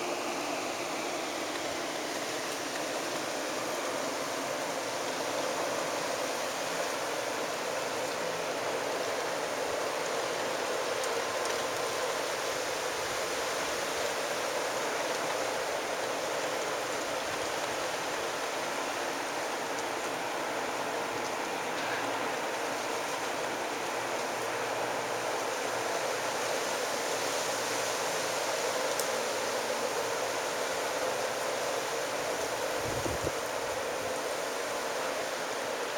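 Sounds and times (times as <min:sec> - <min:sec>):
rain hissing: 0:00.0 - 0:35.9.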